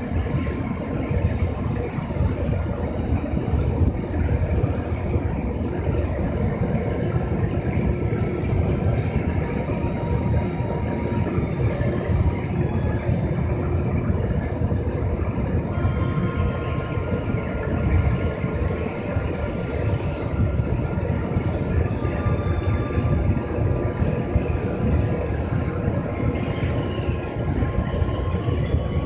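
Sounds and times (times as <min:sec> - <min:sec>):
electric locomotive humming: 0:00.0 - 0:29.0.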